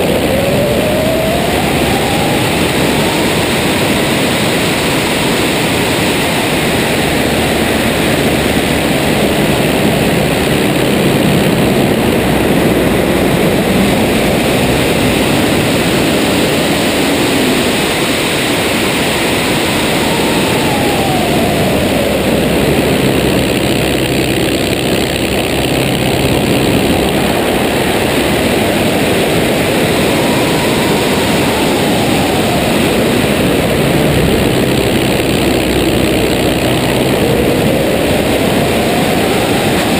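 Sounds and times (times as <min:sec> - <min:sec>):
heavy wind rush: 0:00.0 - 0:39.9
propeller plane engine in flight: 0:00.0 - 0:39.9.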